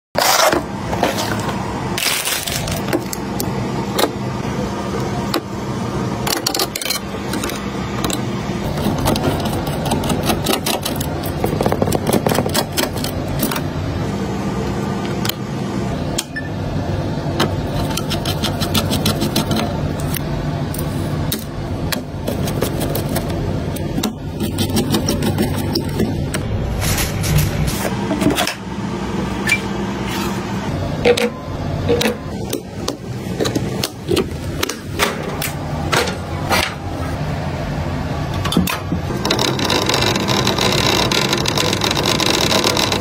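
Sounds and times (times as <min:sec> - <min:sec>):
steady low background hum: 0:00.2 - 0:43.0.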